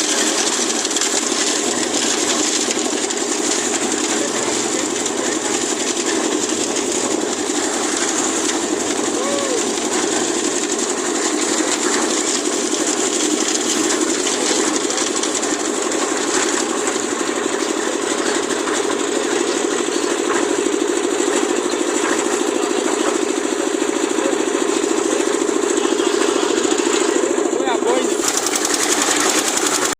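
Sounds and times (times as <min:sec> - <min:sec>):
concrete mixer engine running: 0:00.0 - 0:29.9.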